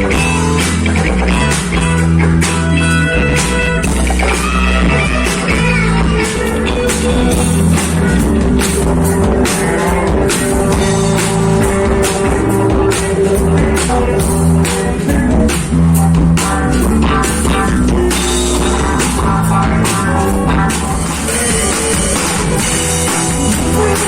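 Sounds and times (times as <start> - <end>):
bass: 0.0 - 24.0
drum kit beat: 0.0 - 24.0
electric guitar: 0.0 - 24.0.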